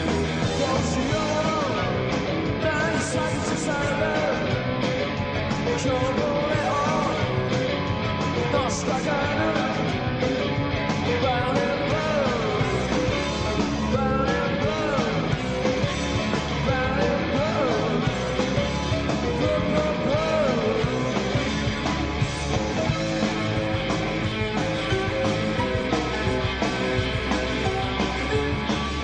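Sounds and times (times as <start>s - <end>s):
pitch-bending lead line: 0.0s - 29.0s
rock band playing live: 0.0s - 29.0s.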